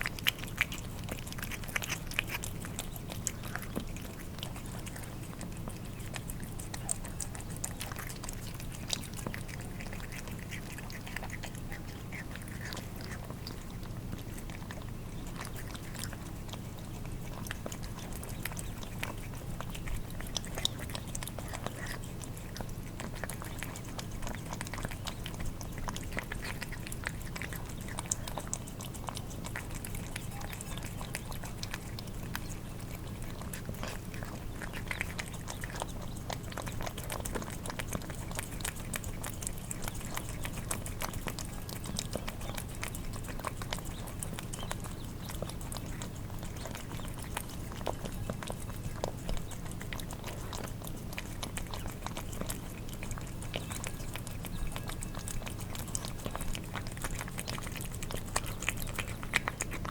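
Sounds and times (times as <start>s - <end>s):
cats eating wet food: 0.0s - 59.9s
faint low hum: 0.0s - 59.9s.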